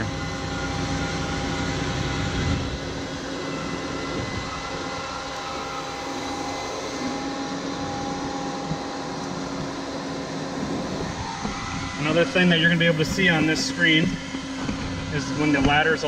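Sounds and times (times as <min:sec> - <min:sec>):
hydraulic ladder mechanism: 0:00.0 - 0:16.0
truck engine running: 0:00.0 - 0:16.0.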